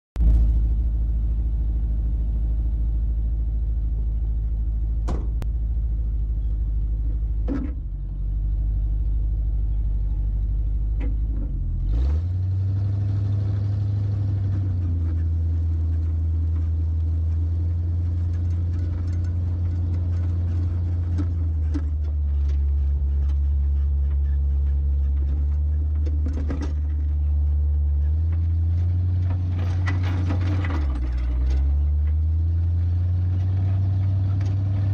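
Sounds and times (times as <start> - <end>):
truck engine running: 0.2 - 34.9.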